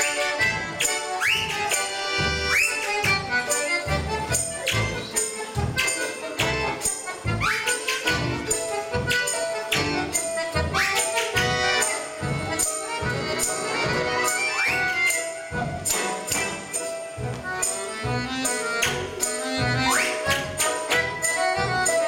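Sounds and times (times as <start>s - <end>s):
folk string ensemble and accordion: 0.0s - 22.0s
jingling tambourine: 0.0s - 22.0s.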